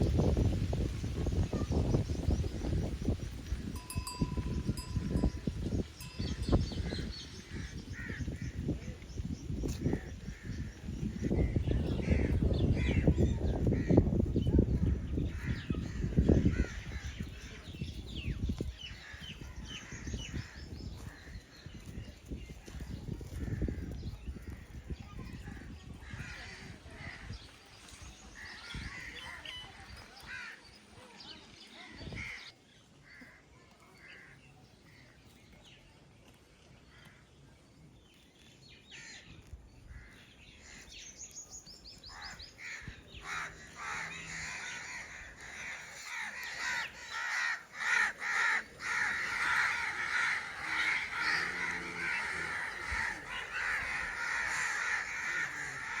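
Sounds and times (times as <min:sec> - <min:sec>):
many birds chattering: 0:00.0 - 0:35.9, 0:36.8 - 0:56.0.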